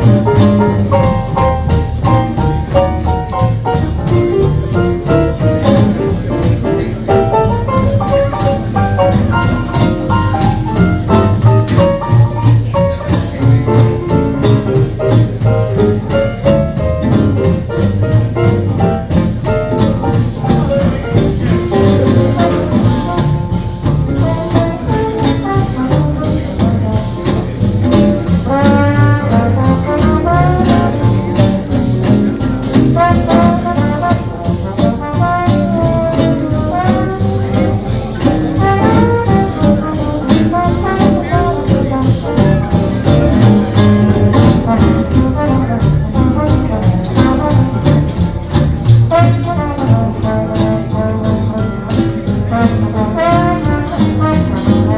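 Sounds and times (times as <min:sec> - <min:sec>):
swing jazz band playing: 0:00.0 - 0:54.9.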